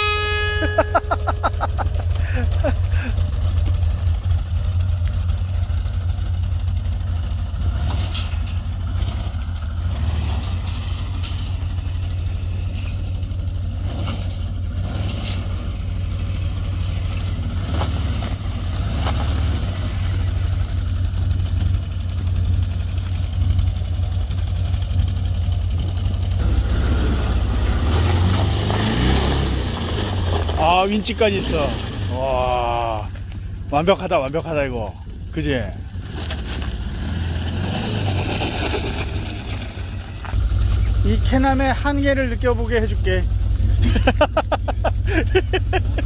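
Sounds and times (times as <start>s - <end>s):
engine idling: 0.0s - 46.0s.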